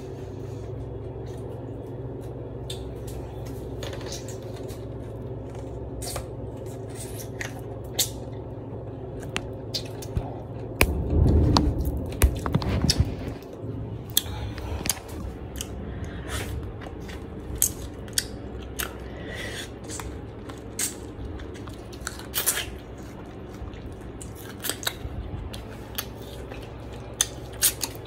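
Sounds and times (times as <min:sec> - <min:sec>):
steady low hum: 0:00.0 - 0:28.0
person chewing food: 0:00.3 - 0:28.0.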